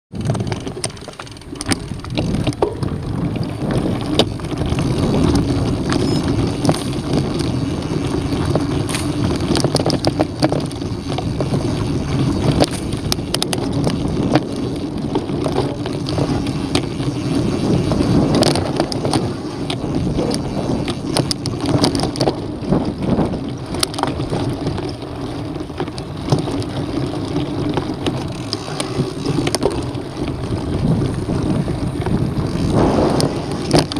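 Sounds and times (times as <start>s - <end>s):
bike clicks and rattles: 0.1s - 33.9s
bike tyres rumbling on dirt: 0.1s - 33.9s
wind on microphone: 0.1s - 33.9s.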